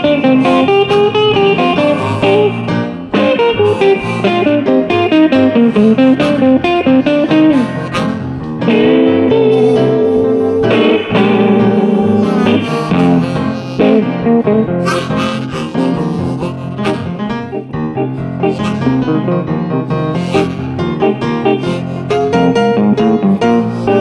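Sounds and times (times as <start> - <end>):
blues band backing: 0.0 - 24.0
electric guitar lead: 0.0 - 24.0.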